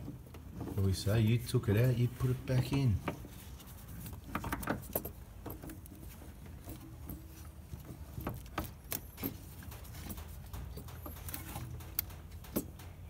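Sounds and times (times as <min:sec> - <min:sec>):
metal parts clinking and knocking: 0:02.5 - 0:13.0.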